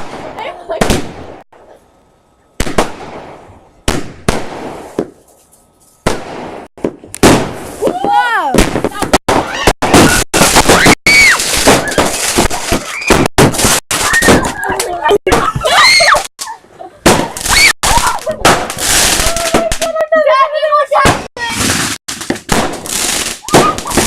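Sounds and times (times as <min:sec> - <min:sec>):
fireworks bangs and crackles: 0:00.0 - 0:01.7, 0:02.6 - 0:05.4, 0:06.0 - 0:16.4, 0:17.0 - 0:20.2, 0:20.9 - 0:24.0.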